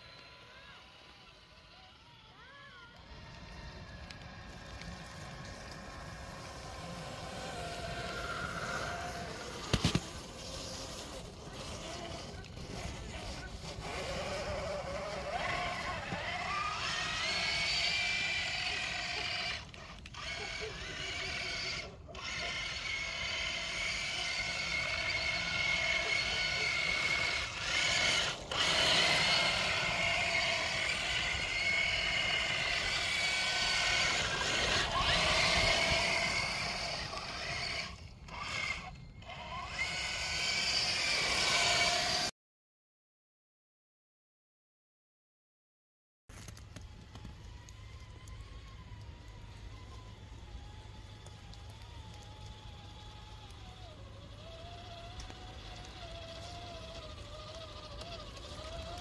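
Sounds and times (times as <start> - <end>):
rc car motor whine: 0.0 - 42.3, 46.3 - 59.0
driving through slush and water: 2.5 - 42.3, 46.3 - 59.0.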